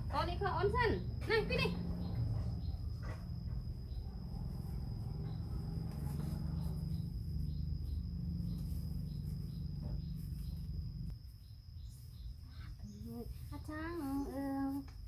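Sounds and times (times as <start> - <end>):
steady low hum: 0.0 - 15.0
soft chirps: 0.8 - 15.0.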